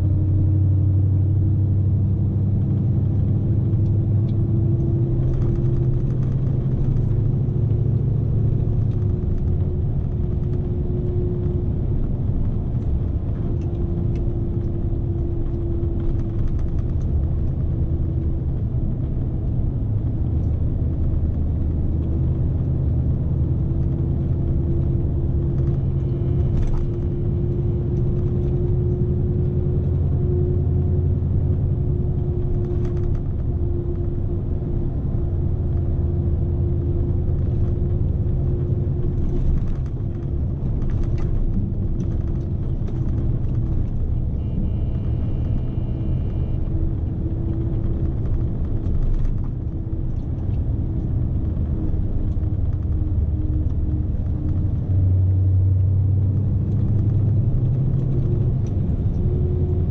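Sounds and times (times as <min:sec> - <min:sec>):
truck diesel engine drone: 0:00.0 - 0:59.9.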